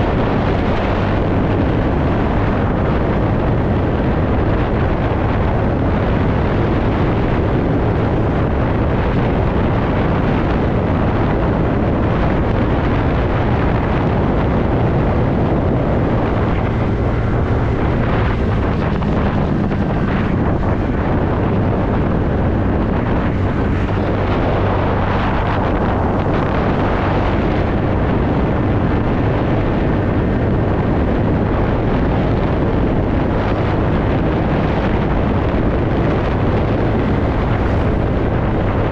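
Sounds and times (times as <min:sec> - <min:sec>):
road noise: 0:00.0 - 0:38.9
scooter engine hum: 0:00.0 - 0:38.9
wind rushing over microphone: 0:00.0 - 0:38.9.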